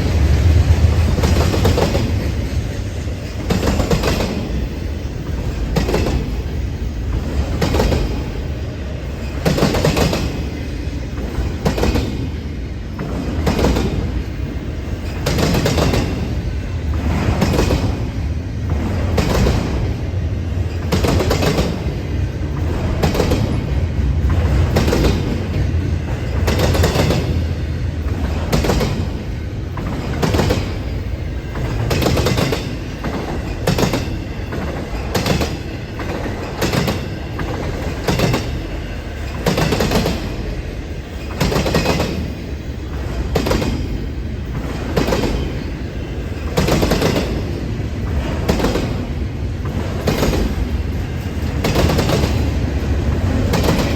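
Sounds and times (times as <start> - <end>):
low train rumble: 0.0 - 53.9
train wheels clacking on rail joints: 0.0 - 53.9.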